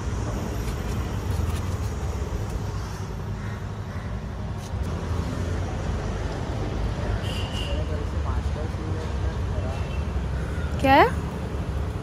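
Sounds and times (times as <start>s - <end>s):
rumble of road vehicles: 0.0s - 12.0s.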